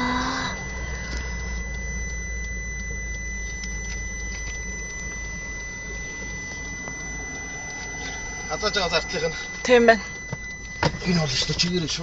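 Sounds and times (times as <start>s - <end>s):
low rumble: 0.0s - 10.8s
high-pitched tone: 0.0s - 12.0s.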